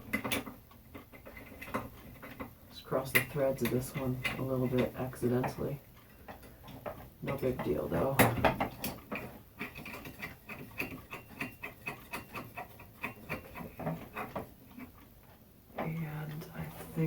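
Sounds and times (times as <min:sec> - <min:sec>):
metallic clicks and scraping of screws: 0:00.0 - 0:16.8.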